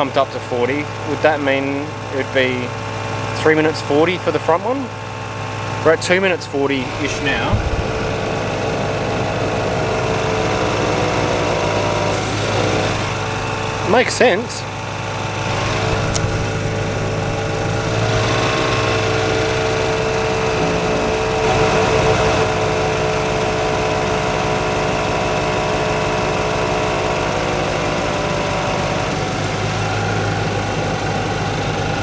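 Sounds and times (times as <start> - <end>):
air compressor humming: 0.8 - 32.0.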